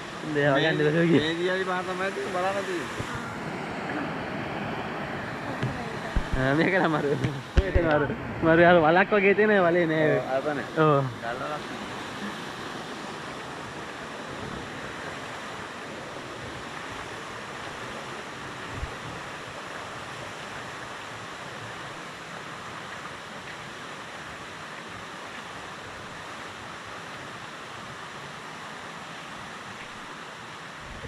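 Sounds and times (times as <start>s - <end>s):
waterfall and stream rushing: 0.0s - 31.0s.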